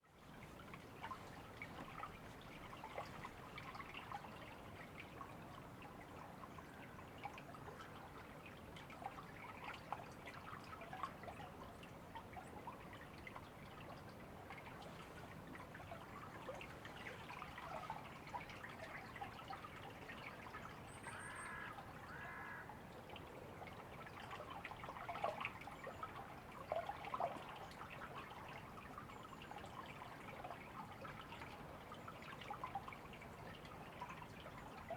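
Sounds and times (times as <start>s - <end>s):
river water trickling and splashing: 0.0s - 34.9s.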